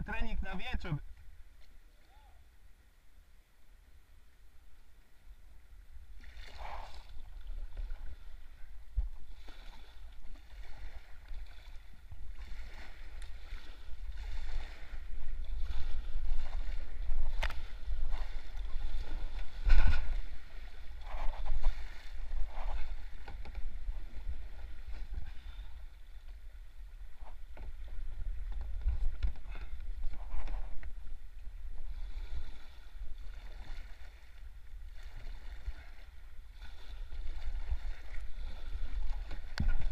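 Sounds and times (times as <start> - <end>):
paddle splashing in water: 6.0 - 39.9.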